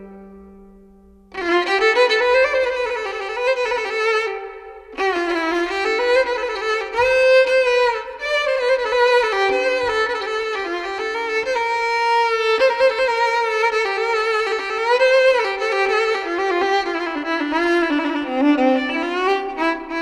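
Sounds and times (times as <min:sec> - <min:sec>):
violin melody with sliding notes: 0:01.3 - 0:20.0.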